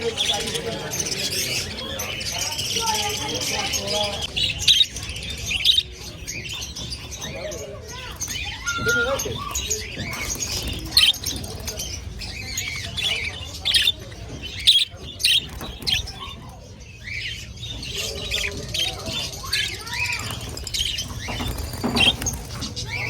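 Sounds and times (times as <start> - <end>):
birds chirping and squawking: 0.0 - 23.0.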